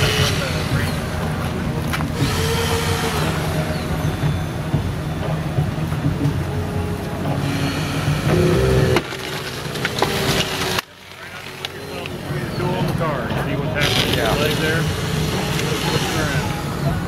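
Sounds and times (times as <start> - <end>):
hydraulic rescue tool running: 0.0 - 17.0.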